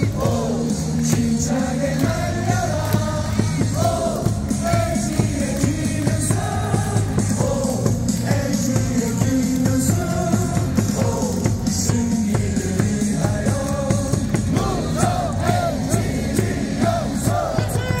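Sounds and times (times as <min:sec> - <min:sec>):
singing: 0:00.0 - 0:18.0
upbeat music over loudspeakers: 0:00.0 - 0:18.0.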